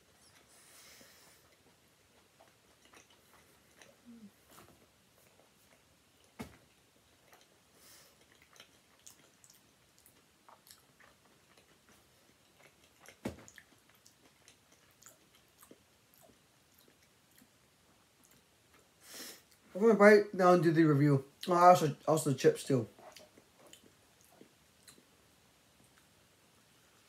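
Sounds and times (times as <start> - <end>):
faint chewing: 0.0 - 19.7, 22.9 - 26.3.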